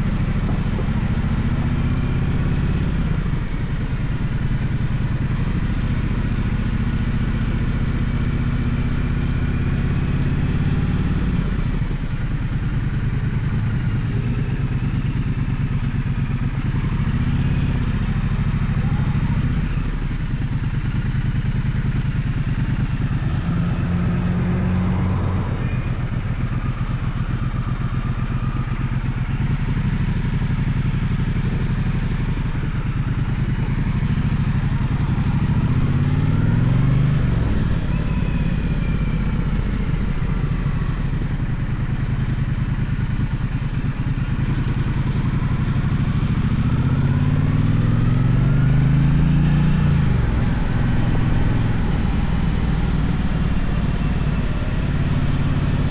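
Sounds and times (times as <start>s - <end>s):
motorcycle engine running: 0.0s - 55.9s
road and wind noise: 0.0s - 55.9s.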